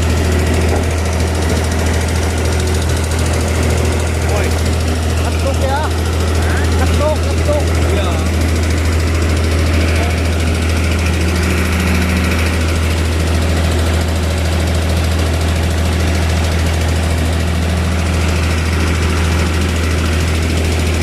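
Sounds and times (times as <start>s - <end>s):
heavy machine engine humming: 0.0s - 21.0s.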